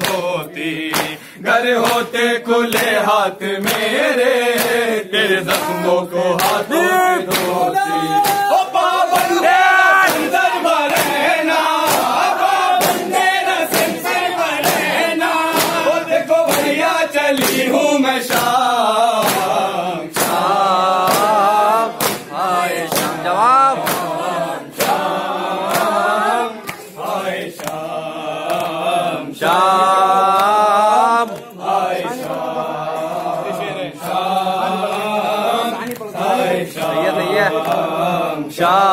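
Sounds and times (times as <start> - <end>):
men chanting a lament: 0.0 - 38.9
rhythmic chest-beating slaps: 0.0 - 38.9.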